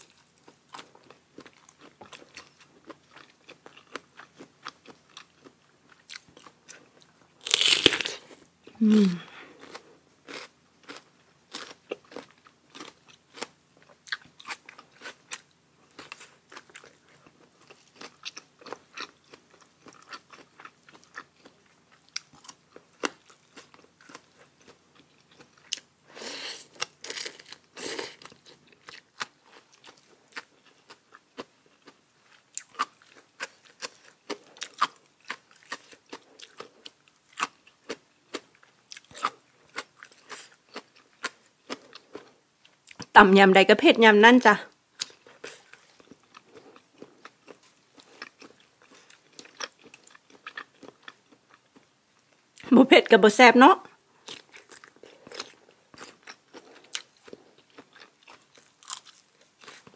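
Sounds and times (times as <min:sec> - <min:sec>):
person chewing crunchy food: 0:00.0 - 0:43.1, 0:44.8 - 0:52.6, 0:53.8 - 0:59.9.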